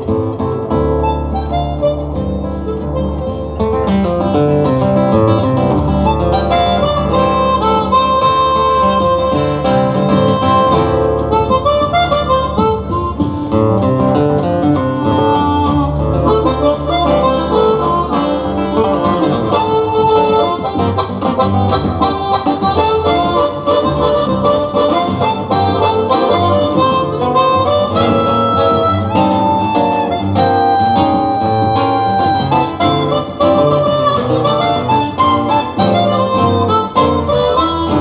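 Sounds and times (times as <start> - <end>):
acoustic guitar: 0.0 - 38.0
harmonica melody: 0.0 - 38.0.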